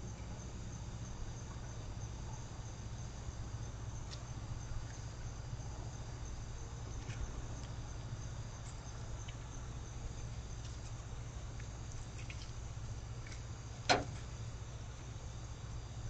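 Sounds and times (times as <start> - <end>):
crickets chirping: 0.0 - 16.0
steady low hum: 0.0 - 16.0.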